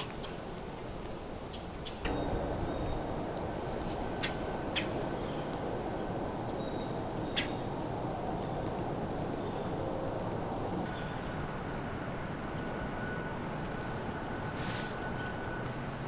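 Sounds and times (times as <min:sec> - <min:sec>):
low rushing background noise: 0:00.1 - 0:16.0.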